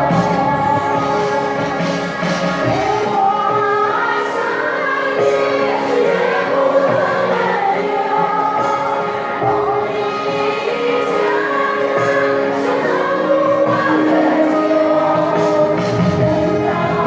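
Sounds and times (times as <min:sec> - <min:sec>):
choir singing with accompaniment: 0:00.0 - 0:17.0.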